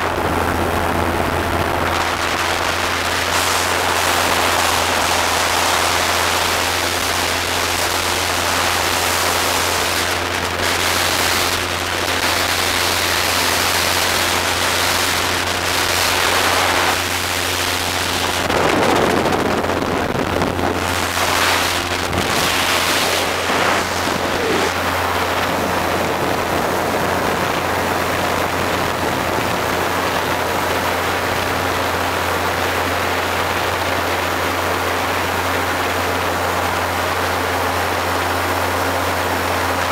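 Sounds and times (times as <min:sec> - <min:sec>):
wind buffeting microphone: 0:00.0 - 0:36.1
engine drone: 0:00.0 - 0:39.9.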